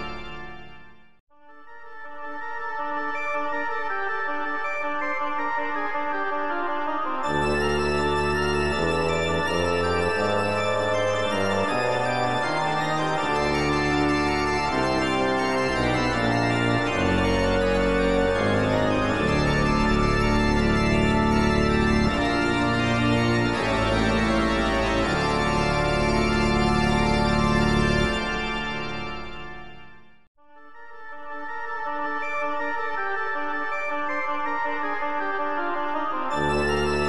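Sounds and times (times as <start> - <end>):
organ-like chords: 0.0 - 1.1, 2.8 - 30.2, 31.8 - 37.0.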